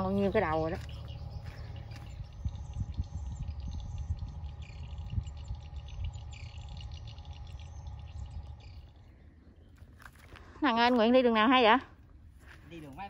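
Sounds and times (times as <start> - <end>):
low microphone rumble: 0.0 - 12.4
birds chirping: 0.0 - 13.0.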